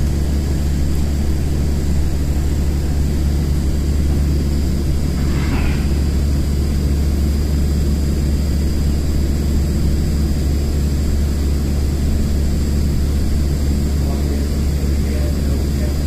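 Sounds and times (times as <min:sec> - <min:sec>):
bus low rumble: 0:00.0 - 0:16.0.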